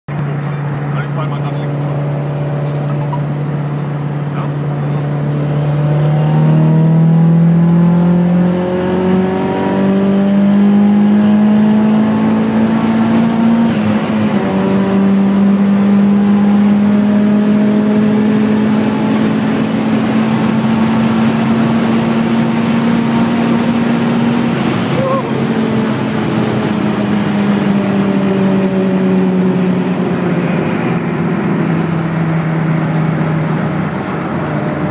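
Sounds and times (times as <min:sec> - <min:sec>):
car engine pulling hard: 0:00.1 - 0:34.9.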